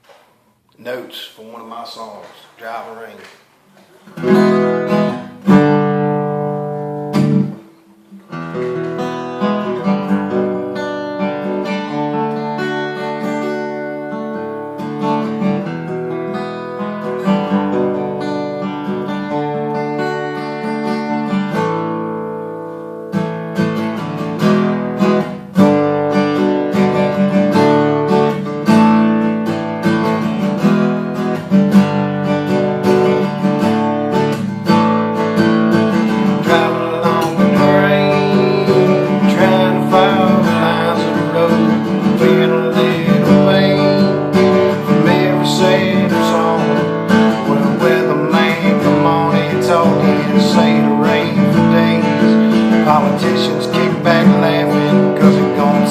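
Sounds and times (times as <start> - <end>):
acoustic guitar strumming chords: 0.0 - 55.9.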